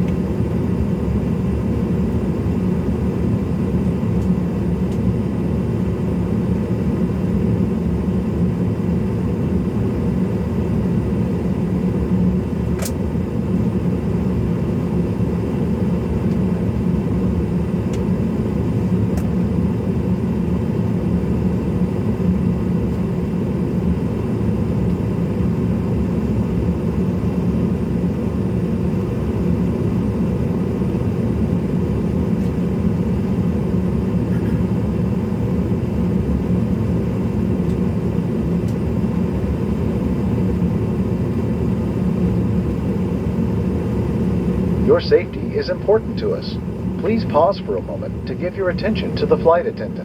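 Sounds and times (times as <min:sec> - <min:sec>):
jet cabin rumble and hum: 0:00.0 - 0:50.0.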